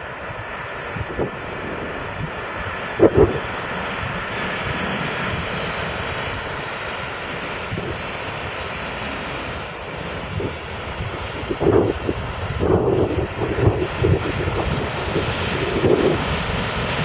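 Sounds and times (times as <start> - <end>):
airliner jet engines rushing: 0.0 - 17.0.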